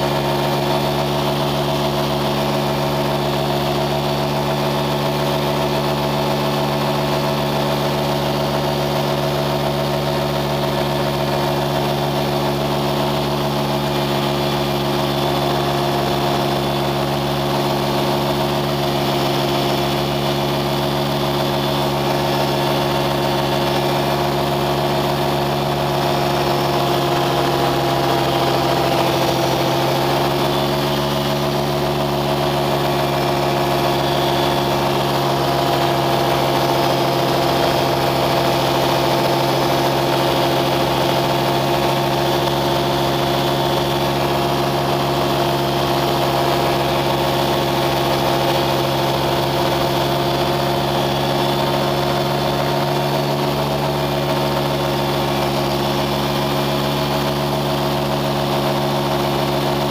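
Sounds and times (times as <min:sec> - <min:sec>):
engine humming steadily: 0:00.0 - 0:59.9.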